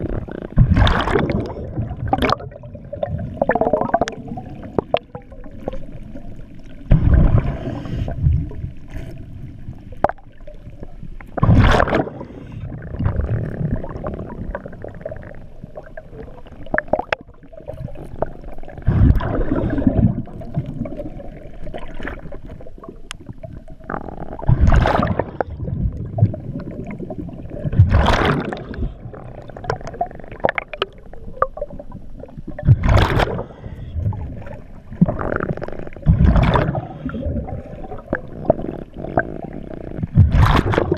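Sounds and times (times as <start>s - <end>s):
underwater exhaled bubbles gurgling: 0.0s - 40.9s.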